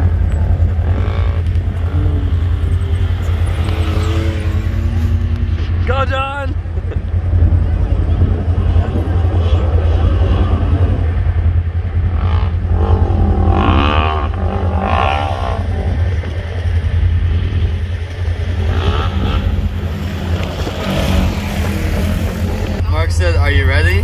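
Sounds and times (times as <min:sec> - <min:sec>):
low engine rumble: 0:00.0 - 0:24.0
off-road vehicle engines revving: 0:00.0 - 0:24.0.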